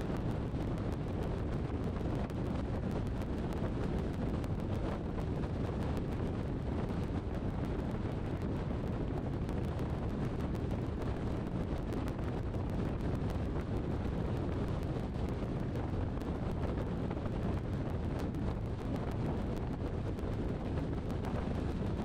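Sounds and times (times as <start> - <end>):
car road and wind rumble: 0.0 - 22.0
wind buffeting microphone: 0.0 - 22.0.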